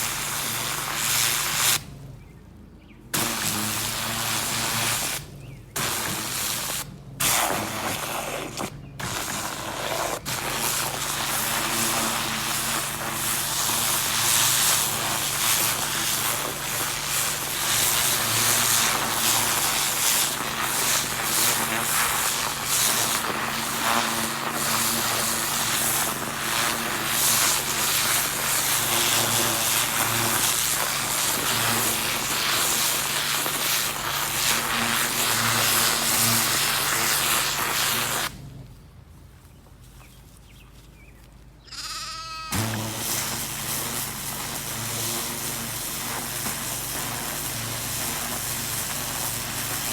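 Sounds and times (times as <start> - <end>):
water jet hissing into soil: 0.0 - 1.9, 3.2 - 38.3, 42.5 - 49.9
pressure washer motor hum: 0.0 - 2.4, 3.1 - 39.1, 42.6 - 49.9.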